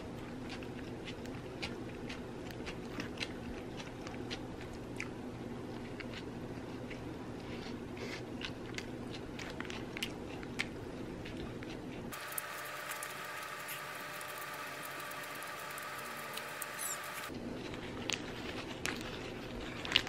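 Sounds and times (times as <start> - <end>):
person chewing sandwich: 0.0 - 14.6, 15.8 - 20.0.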